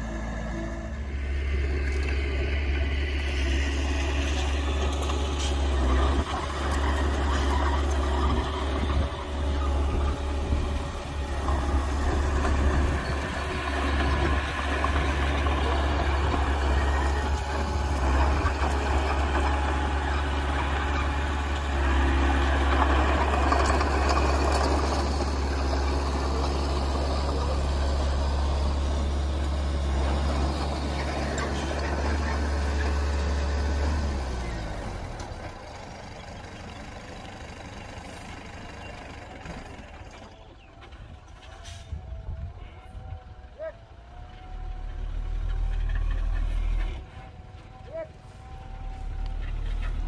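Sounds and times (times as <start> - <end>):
diesel construction machinery running: 0.0 - 50.0.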